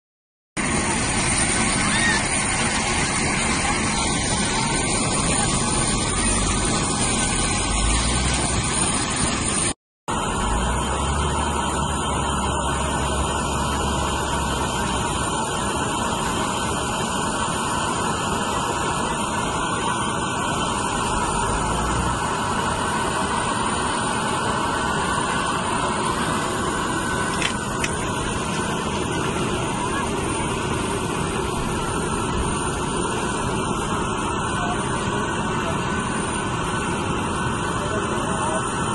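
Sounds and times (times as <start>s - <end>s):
jet airliner roar: 0.6s - 38.9s.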